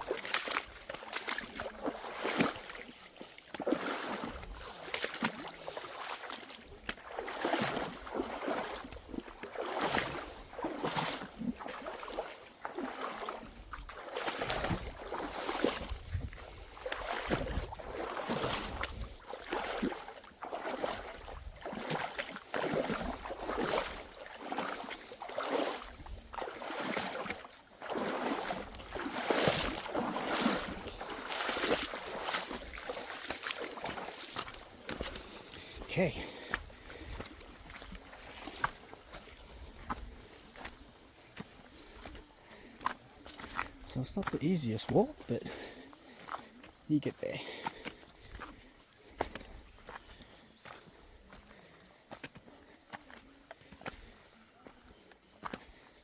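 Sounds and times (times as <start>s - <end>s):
footsteps on muddy trail: 0.0s - 56.0s.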